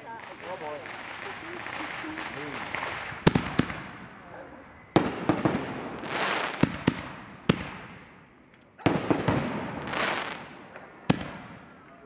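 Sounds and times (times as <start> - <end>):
fireworks hiss: 0.0 - 4.3, 5.0 - 8.0, 9.0 - 11.6
fireworks bangs: 0.0 - 12.0.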